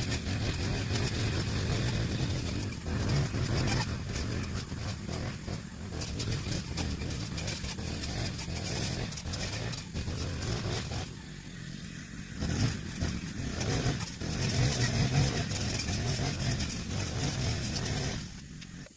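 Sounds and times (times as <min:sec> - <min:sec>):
brush cutter engine running: 0:00.0 - 0:18.9.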